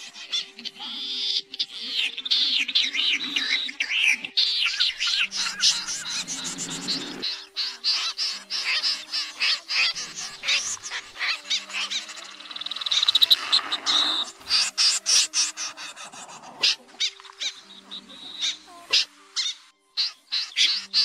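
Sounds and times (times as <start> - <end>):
fast ticking bird calls: 0.0 - 21.0
snipe calling: 0.0 - 21.0.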